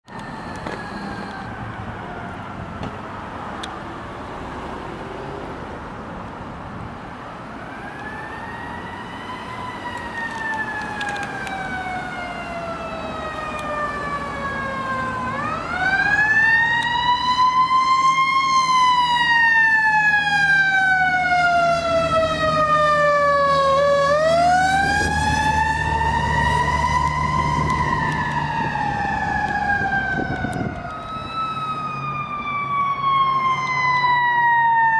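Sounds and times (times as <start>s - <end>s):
fire truck siren wailing: 0.1s - 4.1s, 7.3s - 34.9s.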